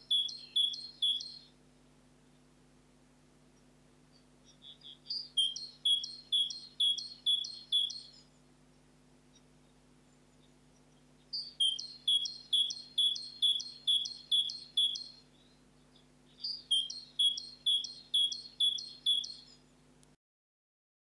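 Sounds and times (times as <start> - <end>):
songbird singing: 0.0 - 2.8, 3.4 - 20.0.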